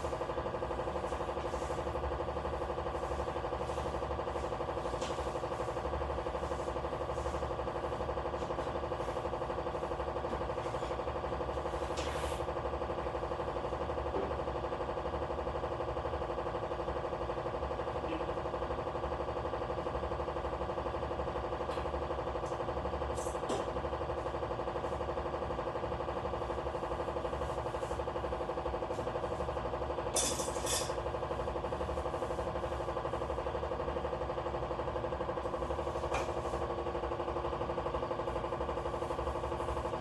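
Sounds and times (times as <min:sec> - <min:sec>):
mechanical hum: 0:00.0 - 0:40.0.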